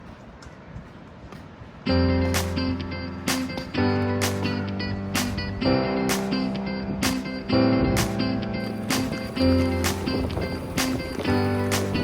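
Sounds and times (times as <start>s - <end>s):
background music with steady beat: 1.9s - 12.0s
plucked guitar: 1.9s - 12.0s.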